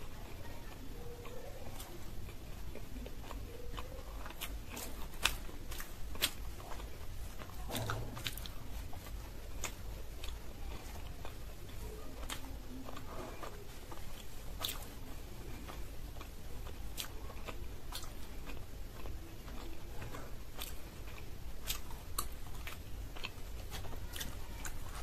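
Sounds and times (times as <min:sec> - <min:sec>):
chewing soft food: 0:00.0 - 0:25.0.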